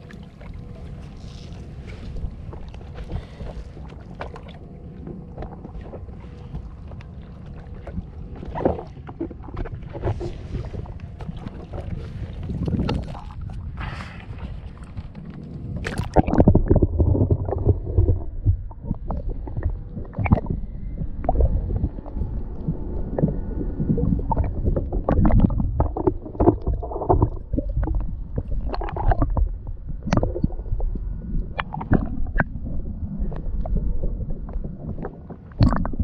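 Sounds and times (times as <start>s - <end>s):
muffled underwater rumbling and gurgling: 0.0s - 36.0s
underwater clicks and knocks: 1.8s - 13.6s, 14.4s - 36.0s.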